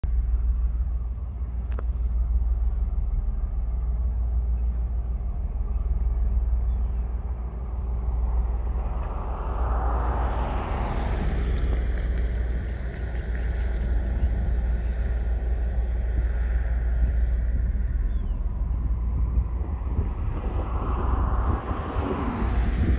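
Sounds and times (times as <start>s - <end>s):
diesel locomotive rumbling past: 0.0s - 22.9s
wagons rolling past: 0.5s - 22.9s.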